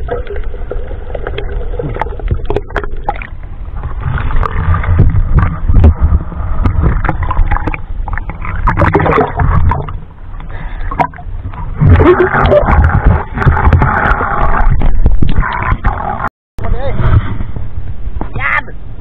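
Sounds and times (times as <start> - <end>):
low rumble: 0.0 - 18.3.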